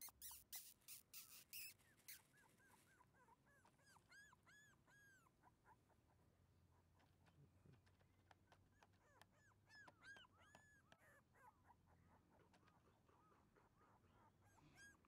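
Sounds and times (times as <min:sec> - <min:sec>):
puppy whimpering: 0:00.0 - 0:06.0, 0:08.5 - 0:15.0.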